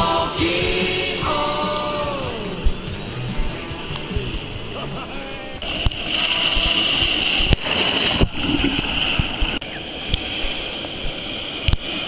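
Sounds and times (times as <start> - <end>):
sea water splashing: 0.0 - 12.0.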